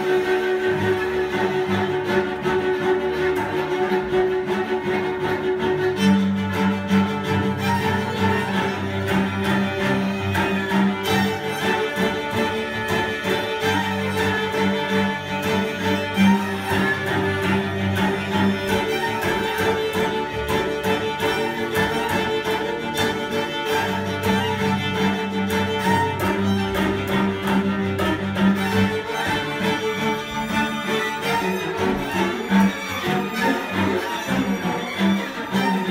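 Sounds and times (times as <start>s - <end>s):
cello long held notes: 0.0s - 35.9s
violins and viola playing: 0.0s - 35.9s.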